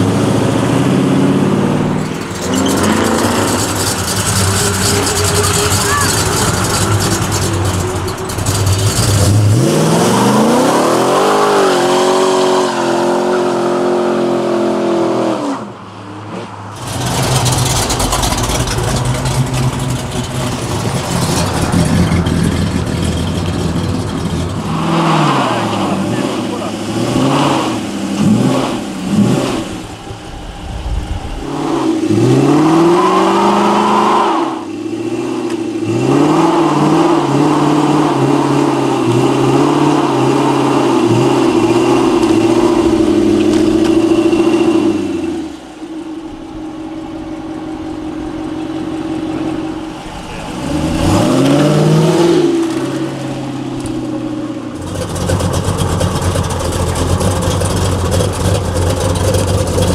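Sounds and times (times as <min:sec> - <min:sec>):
deep rough engine: 0:00.0 - 0:16.0, 0:16.7 - 0:59.9
car engines revving and accelerating: 0:00.0 - 0:59.9.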